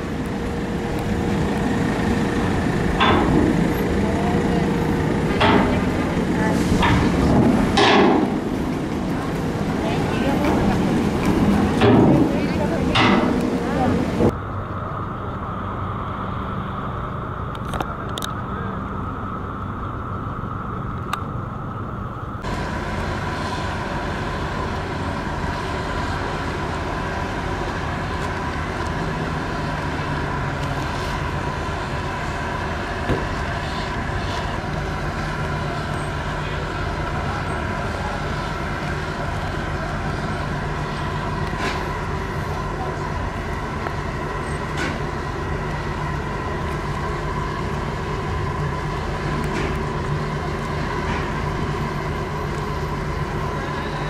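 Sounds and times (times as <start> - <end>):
ferry engines droning: 0.0 - 54.0.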